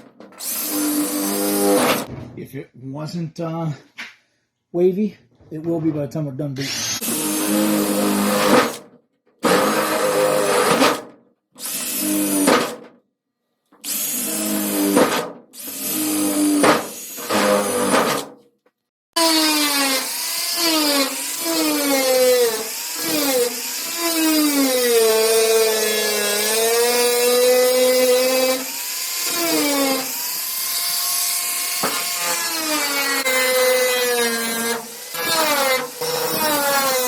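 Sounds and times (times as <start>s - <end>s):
power tool cutting sheet metal: 0.0s - 2.1s, 6.7s - 8.8s, 9.4s - 12.8s, 13.9s - 18.3s, 19.2s - 37.0s.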